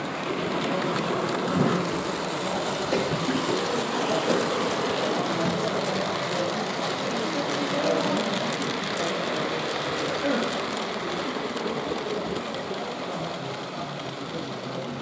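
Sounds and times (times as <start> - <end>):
busy hall background noise: 0.0 - 15.0
model train running on track: 0.0 - 15.0.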